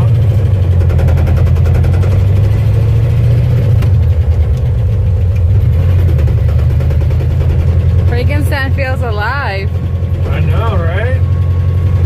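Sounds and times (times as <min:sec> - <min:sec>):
pickup truck engine rumbling: 0:00.0 - 0:12.0.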